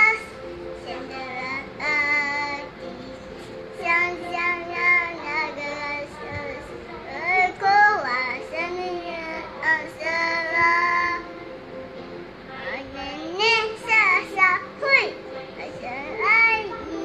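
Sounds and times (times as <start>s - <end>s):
girl singing: 0.0s - 11.3s, 12.5s - 17.0s.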